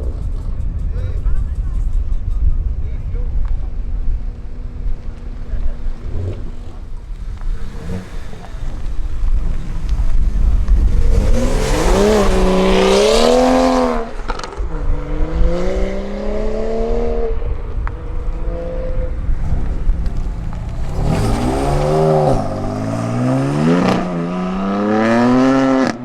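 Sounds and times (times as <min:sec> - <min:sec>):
low rumble: 0:00.0 - 0:26.0
engine revving: 0:01.5 - 0:26.0.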